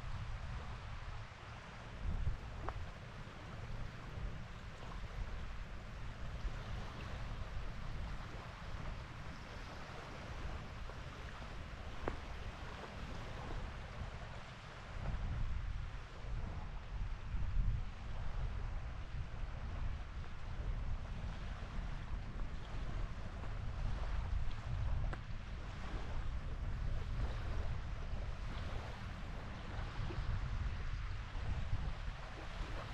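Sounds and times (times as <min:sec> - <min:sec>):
small waves on lake shore: 0:00.0 - 0:32.9
wind buffeting microphone: 0:00.0 - 0:32.9.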